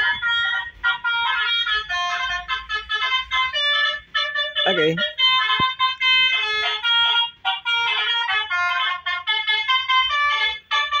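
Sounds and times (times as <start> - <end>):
musical horn playing a tune: 0.0 - 11.0.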